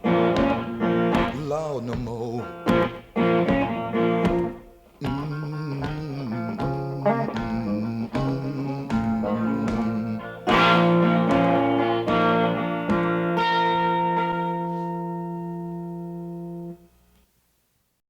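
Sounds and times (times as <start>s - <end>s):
guitar chords: 0.0s - 17.1s.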